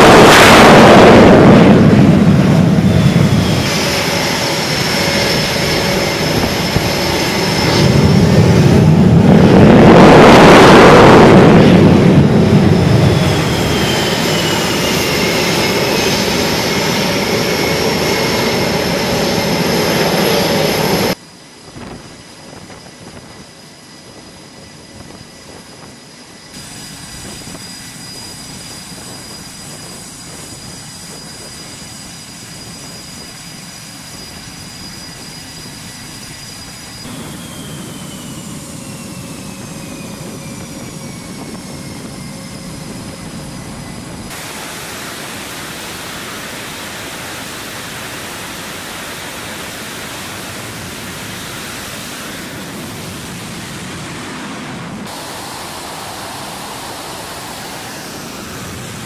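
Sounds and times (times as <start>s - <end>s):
jet engine roar: 0.0s - 59.0s
jet turbine whine: 0.0s - 59.0s.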